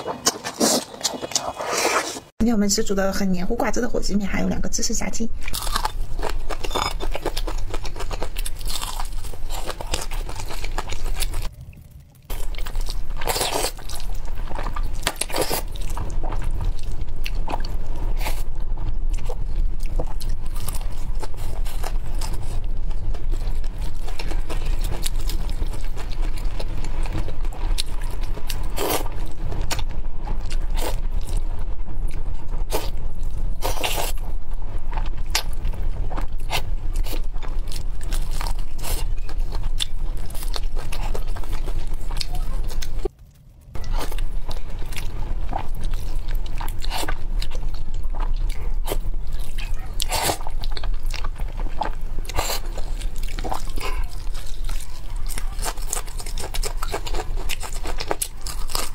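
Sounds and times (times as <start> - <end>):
crunching and chewing food: 0.0 - 2.3, 5.4 - 58.9
steady low hum: 2.4 - 58.9.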